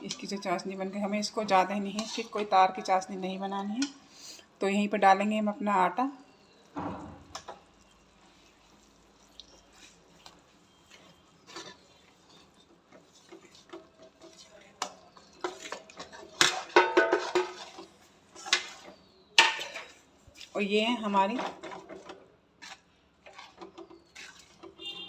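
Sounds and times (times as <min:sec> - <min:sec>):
spoon stirring and scraping pan: 0:00.0 - 0:05.4, 0:06.2 - 0:25.0.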